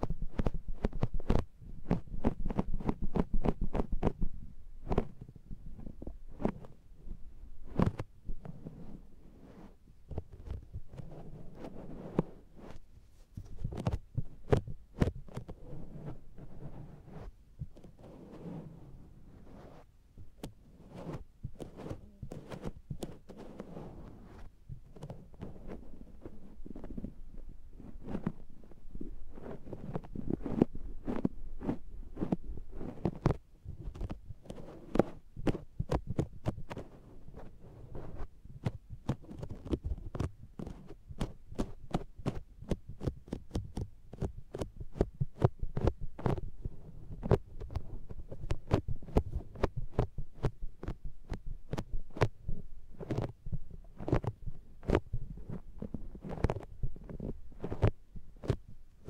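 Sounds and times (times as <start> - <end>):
sponge patting on microphone: 0.0 - 6.7, 9.6 - 18.2, 19.4 - 58.8.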